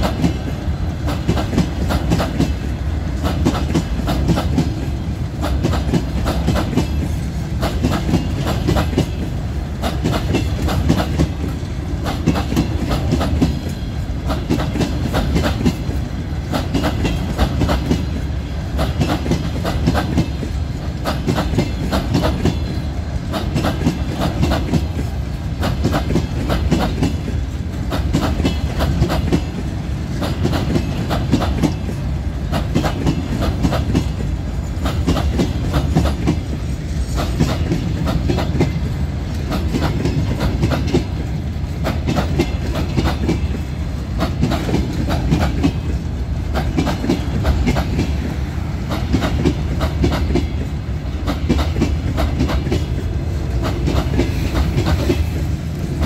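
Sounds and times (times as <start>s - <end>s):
low train rumble: 0.0s - 56.0s
train wheels clattering over rail joints: 0.0s - 56.0s.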